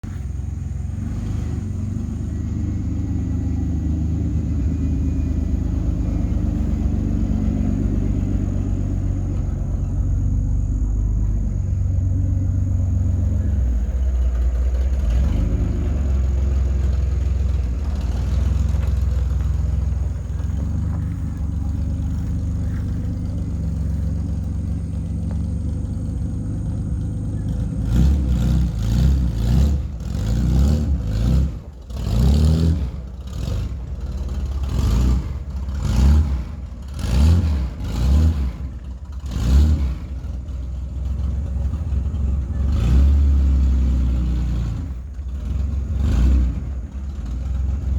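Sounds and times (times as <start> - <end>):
truck engine idling and revving: 0.0 - 47.9.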